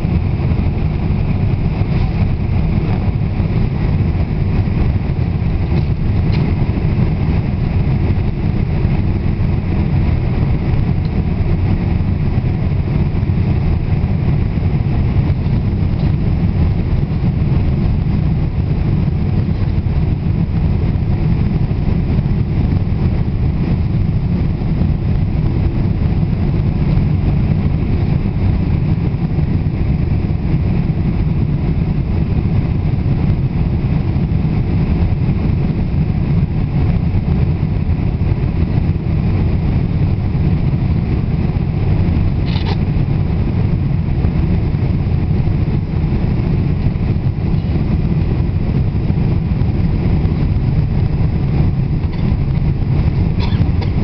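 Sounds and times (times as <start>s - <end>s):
airplane cabin engine and airflow noise: 0.0s - 54.0s.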